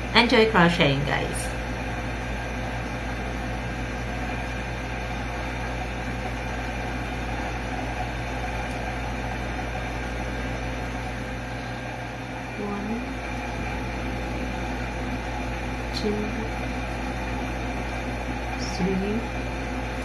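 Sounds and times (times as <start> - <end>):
appliance motor hum and hiss: 0.0 - 20.0.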